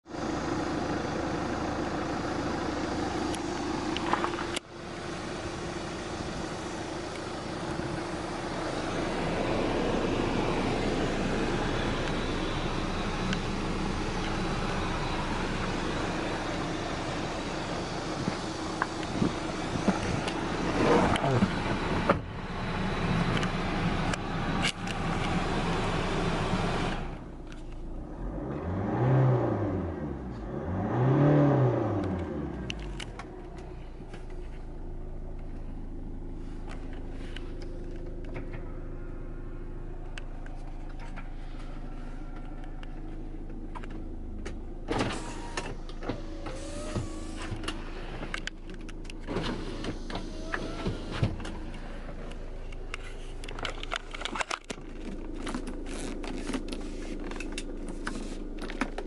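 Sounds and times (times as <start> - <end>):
suv engine revving and idling: 0.0 - 59.0.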